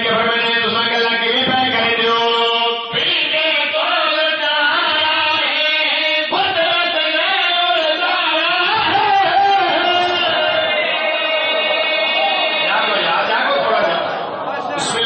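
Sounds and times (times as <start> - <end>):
men chanting into microphones: 0.0 - 15.0.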